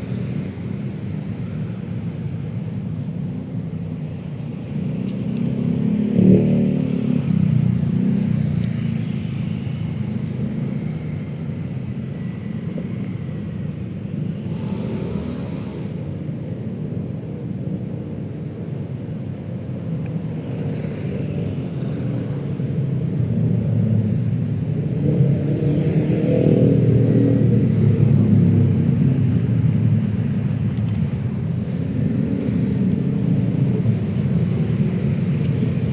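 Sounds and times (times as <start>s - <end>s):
vehicles rumbling past: 0.0s - 35.9s.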